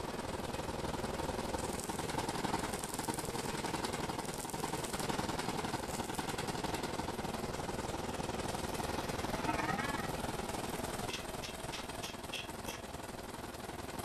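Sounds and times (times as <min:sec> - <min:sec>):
welding arc crackling: 0:00.0 - 0:12.9.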